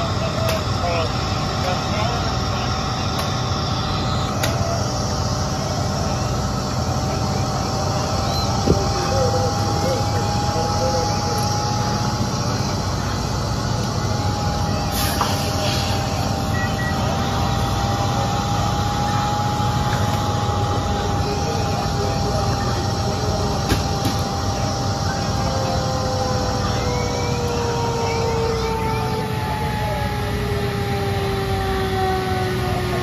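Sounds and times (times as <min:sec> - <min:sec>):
fire engine diesel engine running: 0:00.0 - 0:33.0
steady high whine: 0:00.0 - 0:33.0.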